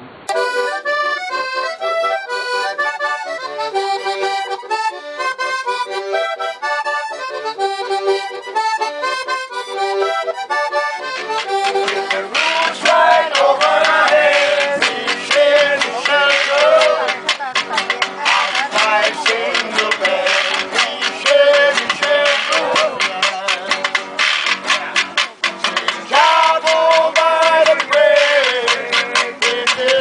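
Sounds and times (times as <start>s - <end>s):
button accordion playing melody: 0.3s - 30.0s
louder music: 0.3s - 30.0s.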